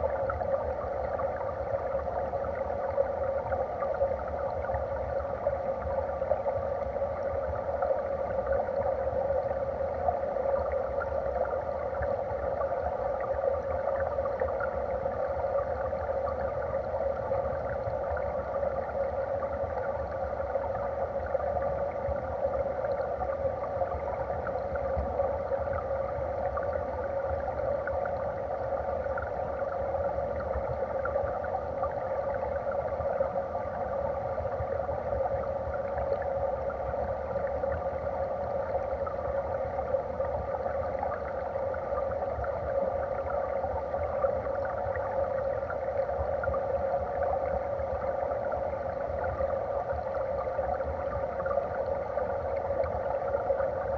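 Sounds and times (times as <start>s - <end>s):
underwater stream rushing: 0.0s - 53.9s.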